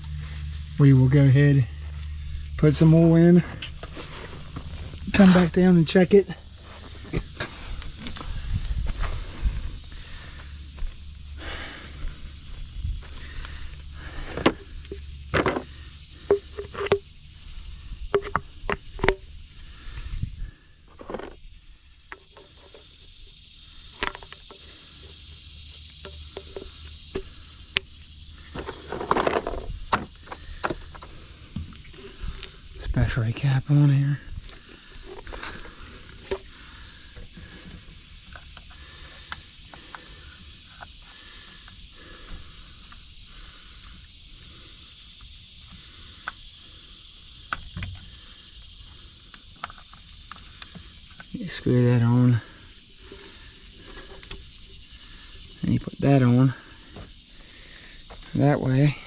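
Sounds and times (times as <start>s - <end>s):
high insect chirring: 0.0s - 59.0s
steady high hiss: 0.0s - 59.0s.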